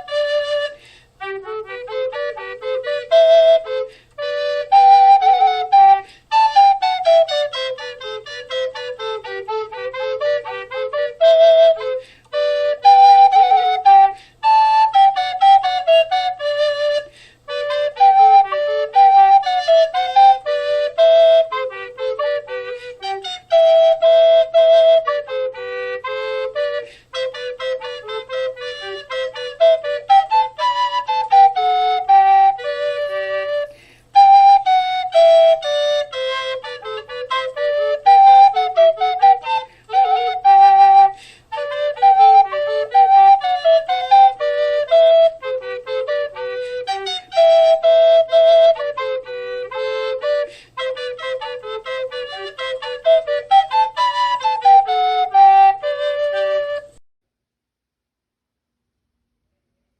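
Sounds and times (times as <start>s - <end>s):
flute playing lively melody: 0.0s - 57.0s.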